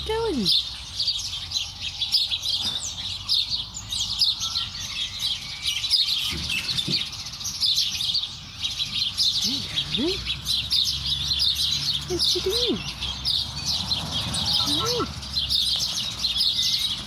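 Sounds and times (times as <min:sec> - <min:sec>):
chicks peeping and cheeping: 0:00.1 - 0:17.0.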